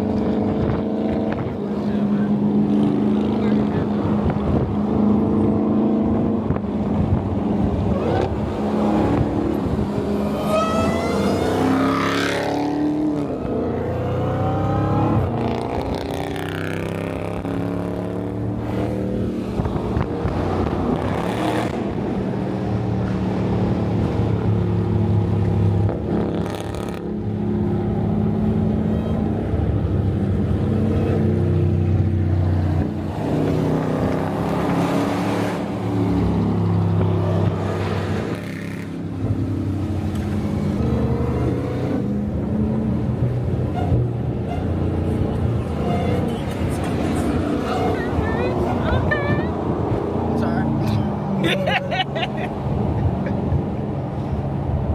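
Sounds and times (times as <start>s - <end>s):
car engine accelerating: 0.0s - 51.4s.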